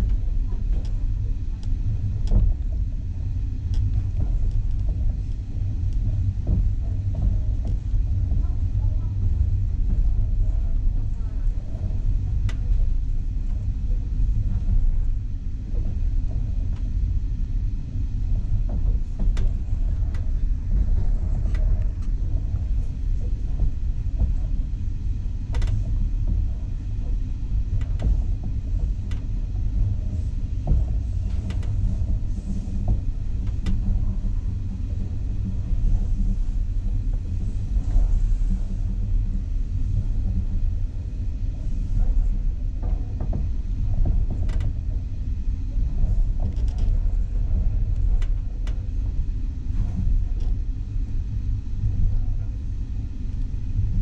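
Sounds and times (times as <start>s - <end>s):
train rumble inside carriage: 0.0s - 54.0s.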